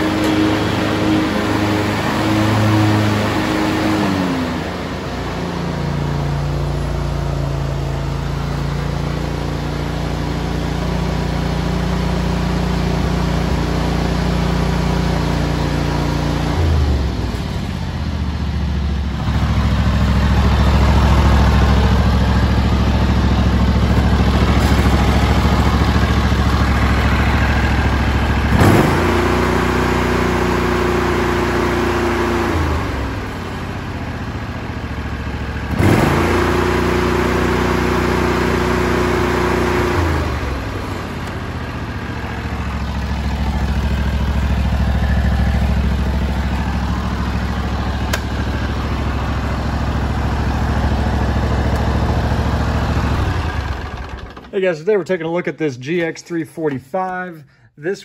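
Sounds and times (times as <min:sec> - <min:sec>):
garden tractor engine running: 0:00.0 - 0:58.0.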